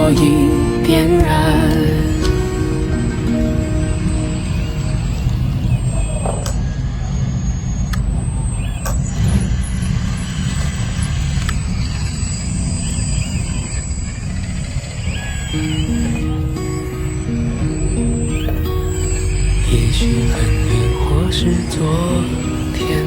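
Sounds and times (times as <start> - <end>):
faint high chirps: 0.0 - 23.0
low machine rumble: 0.0 - 23.0.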